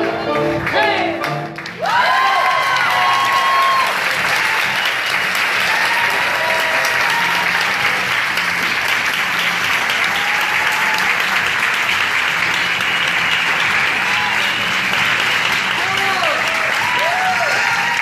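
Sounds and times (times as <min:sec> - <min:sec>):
audience applauding: 0:00.2 - 0:18.0.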